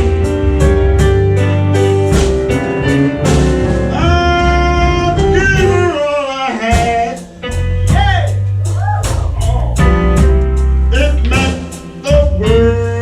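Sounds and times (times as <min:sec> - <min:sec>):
blues band playing live: 0:00.0 - 0:13.0
drum hits: 0:00.0 - 0:13.0.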